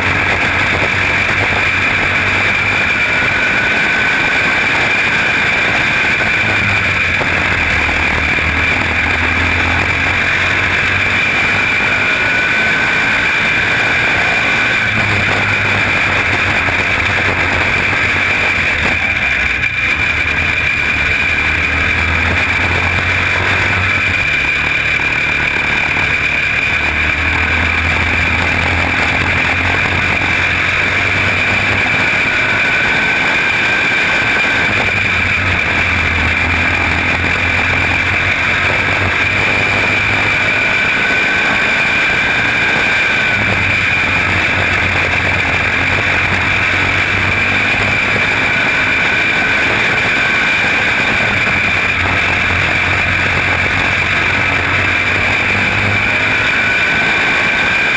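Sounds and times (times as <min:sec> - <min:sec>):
high whine: 0:00.0 - 0:57.9
small race car engine: 0:00.0 - 0:57.9.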